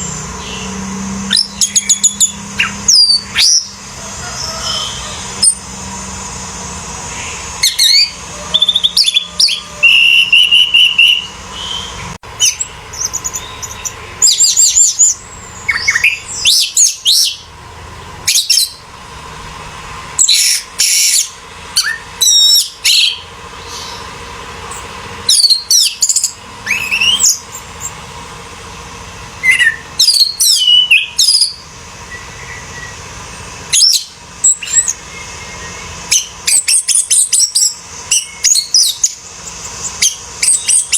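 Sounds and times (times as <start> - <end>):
thrush singing whistles: 0.0 - 17.6, 18.2 - 18.9, 20.2 - 28.0, 29.4 - 40.9.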